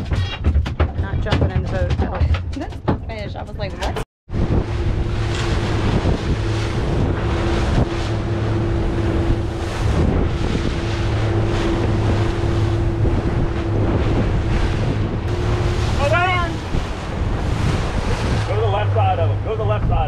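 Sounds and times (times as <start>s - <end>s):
outboard engines running: 0.0s - 20.0s
water washing along hull: 3.1s - 20.0s
wind blowing on microphone: 3.1s - 20.0s.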